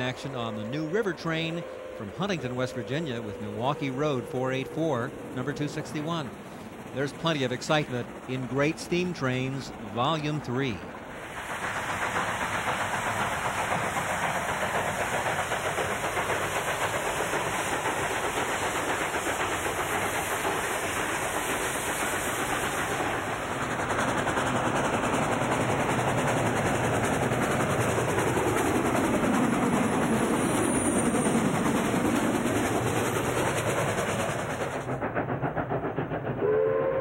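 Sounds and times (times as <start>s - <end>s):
steam locomotive chuffing: 0.0s - 37.0s
train wheels clicking over rails: 0.0s - 37.0s.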